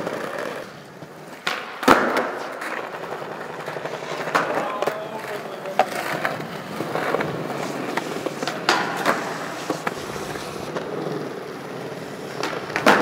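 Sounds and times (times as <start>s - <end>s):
skateboard clacks: 0.0s - 13.0s
skateboard wheels rolling on concrete: 0.0s - 13.0s.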